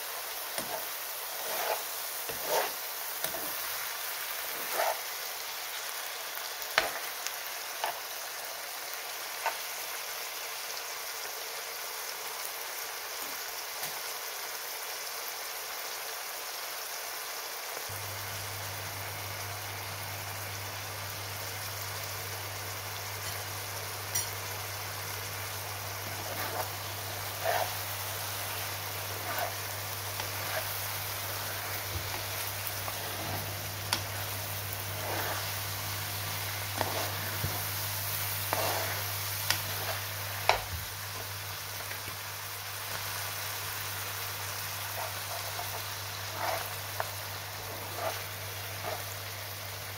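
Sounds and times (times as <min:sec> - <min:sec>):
liver and onions sizzling in oil: 0:00.0 - 0:49.9.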